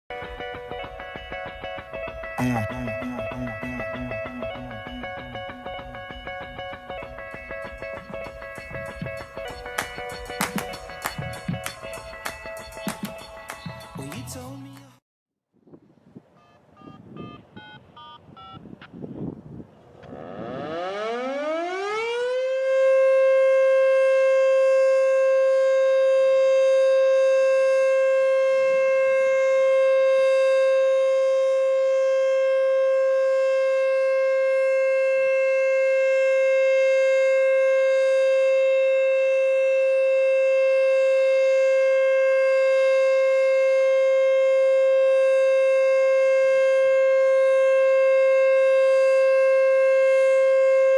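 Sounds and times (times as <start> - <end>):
warning siren wailing: 0.2 - 12.1, 20.0 - 50.9.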